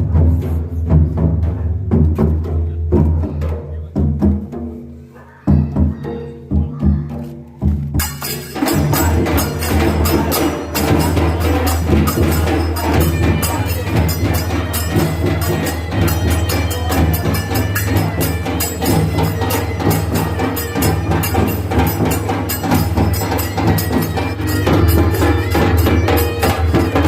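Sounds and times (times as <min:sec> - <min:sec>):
folk percussion music: 0:00.0 - 0:27.0.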